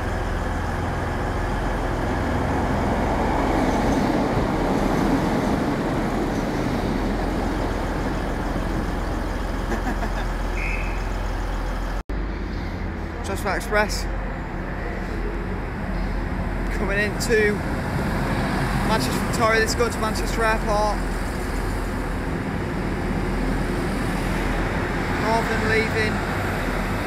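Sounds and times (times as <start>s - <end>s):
train engine and wheels rumbling: 0.0s - 27.0s.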